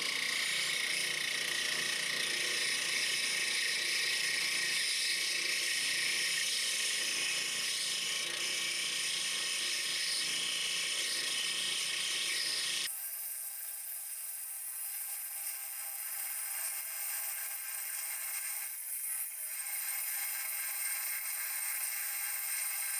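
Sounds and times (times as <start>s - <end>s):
small power tool whirring: 0.0s - 22.9s.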